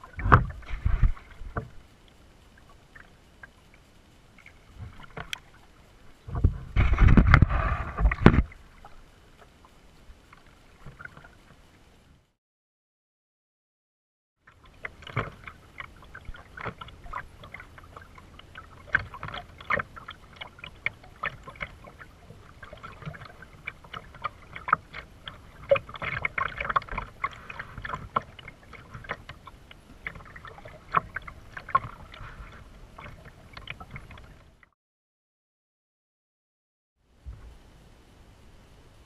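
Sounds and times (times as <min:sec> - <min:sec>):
paddle splashing water: 0:00.0 - 0:11.9, 0:14.4 - 0:34.6.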